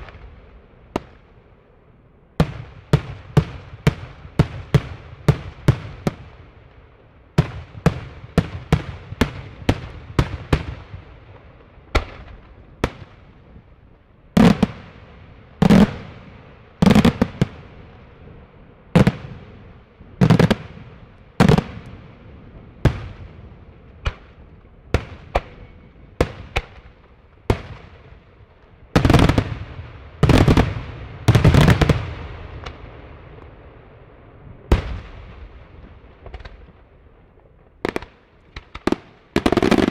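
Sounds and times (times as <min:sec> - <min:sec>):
fireworks bursting with echoing bangs: 0:00.0 - 0:39.9.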